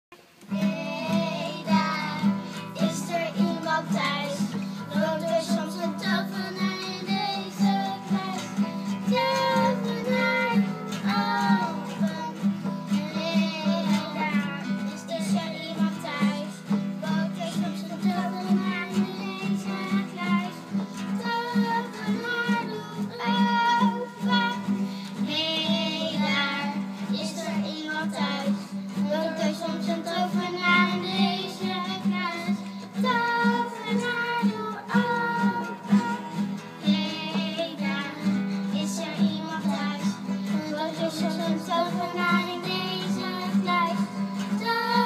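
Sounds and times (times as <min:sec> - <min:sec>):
strummed classical guitars: 0:00.2 - 0:45.0
girls singing: 0:00.5 - 0:45.0.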